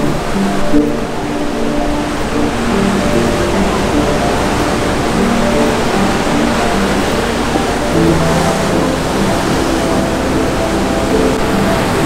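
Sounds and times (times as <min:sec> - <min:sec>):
soft background music: 0:00.0 - 0:12.0
surf breaking over rocks: 0:00.0 - 0:12.0.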